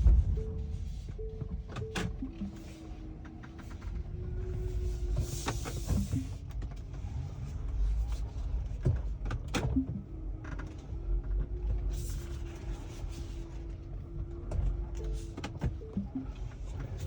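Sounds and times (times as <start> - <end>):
low road rumble: 0.0 - 17.0.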